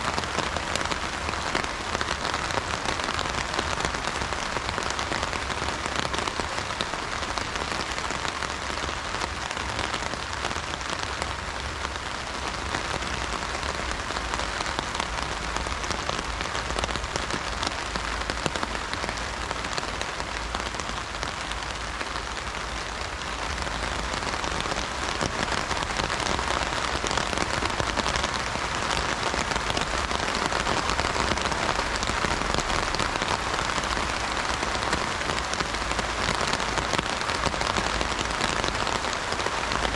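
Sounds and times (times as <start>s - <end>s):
rain drumming on an umbrella: 0.0s - 39.9s.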